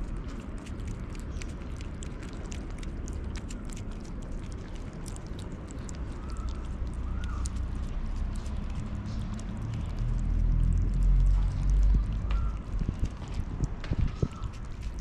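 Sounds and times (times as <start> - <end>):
cats chewing and lapping food: 0.0 - 15.0
low rumble: 0.0 - 15.0.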